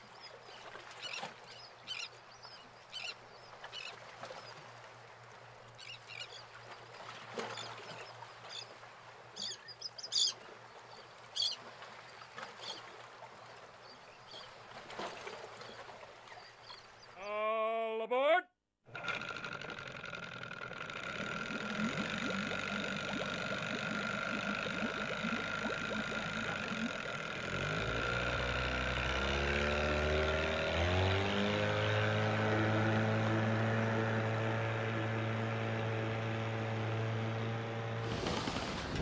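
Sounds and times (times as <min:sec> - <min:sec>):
motorboat engine: 0:00.0 - 0:17.0, 0:18.8 - 0:39.0.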